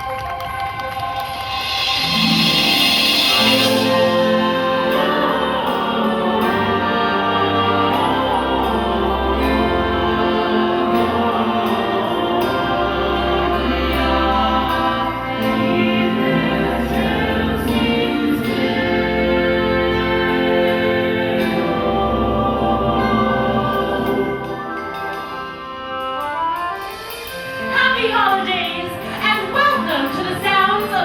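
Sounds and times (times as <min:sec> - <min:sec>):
choir singing with orchestra: 0:01.2 - 0:31.0.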